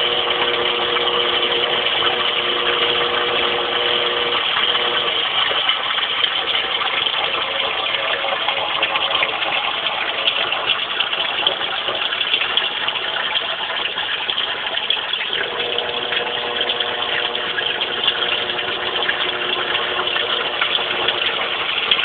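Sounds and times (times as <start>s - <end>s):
sump pump rushing water: 0.0s - 22.0s.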